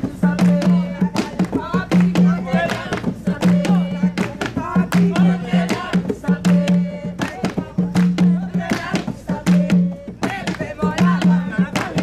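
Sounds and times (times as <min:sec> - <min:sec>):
hand-beaten drums: 0:00.0 - 0:12.0
voices singing: 0:00.0 - 0:12.0.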